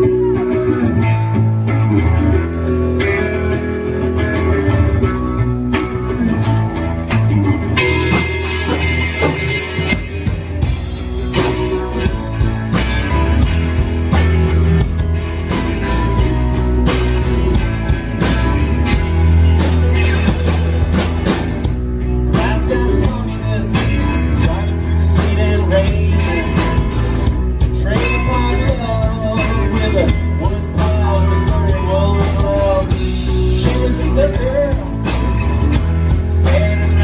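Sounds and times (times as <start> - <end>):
bending lead guitar melody: 0.0 - 37.0
rock band playing: 0.0 - 37.0.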